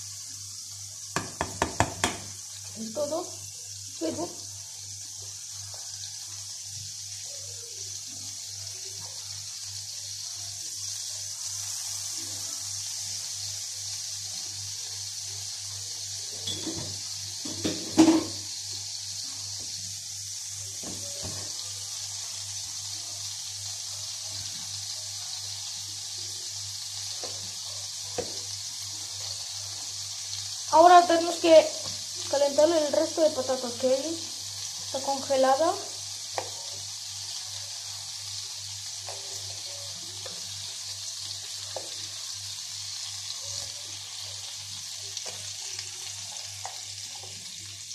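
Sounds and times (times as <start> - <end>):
margarine sizzling in frying pan: 0.0 - 47.9.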